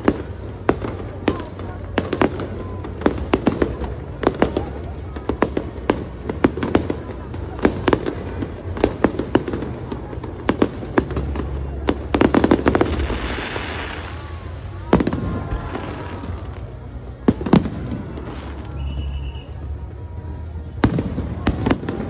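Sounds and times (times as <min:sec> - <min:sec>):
fireworks bangs: 0:00.0 - 0:22.0
fireworks crackling pops: 0:00.0 - 0:22.0.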